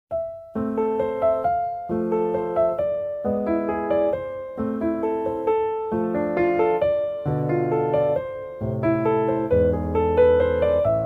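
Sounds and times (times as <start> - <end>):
piano music: 0.1 - 11.0.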